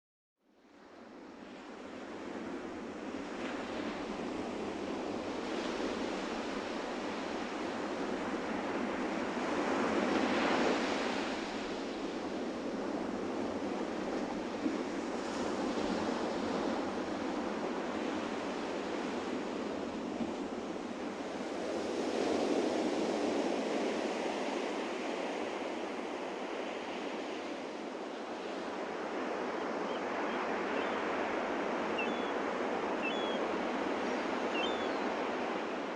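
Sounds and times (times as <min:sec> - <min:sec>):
ocean waves washing onto beach: 0:00.8 - 0:35.9.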